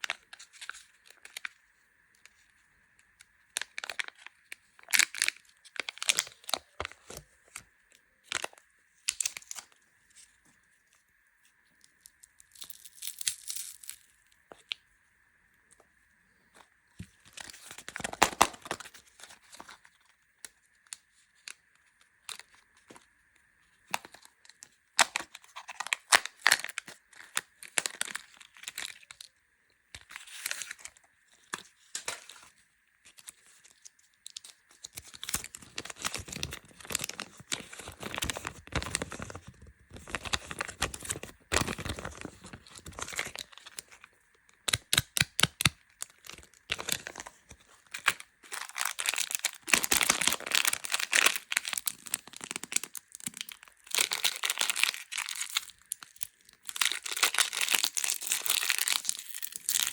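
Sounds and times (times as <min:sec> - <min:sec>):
candy wrappers crinkling: 0:00.0 - 0:09.8, 0:11.5 - 0:14.8, 0:16.6 - 0:23.1, 0:23.7 - 0:59.9.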